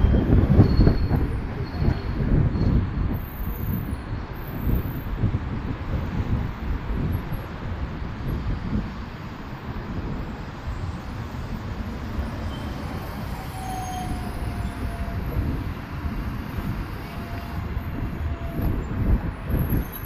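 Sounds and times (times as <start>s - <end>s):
city street traffic rumble: 0.0s - 20.0s
wind buffeting microphone: 0.0s - 20.0s.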